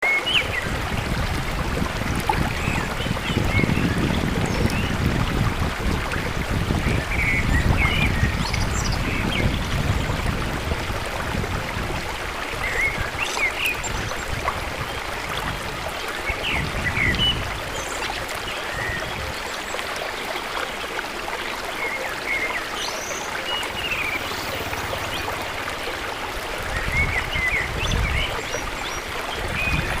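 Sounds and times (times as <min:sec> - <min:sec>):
flowing stream: 0:00.0 - 0:30.0.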